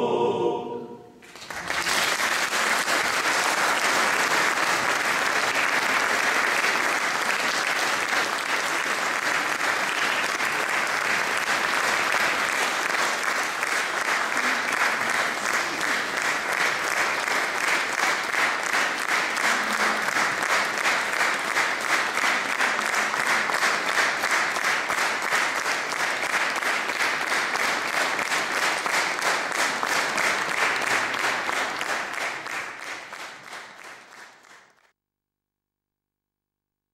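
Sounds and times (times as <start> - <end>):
audience applauding: 1.2 - 34.9.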